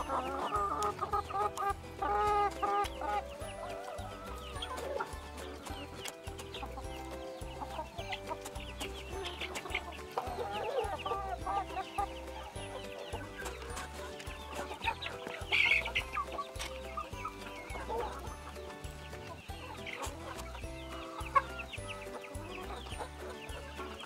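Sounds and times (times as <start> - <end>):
chickens clucking: 0.0 - 24.0
music with bass line: 0.0 - 24.0.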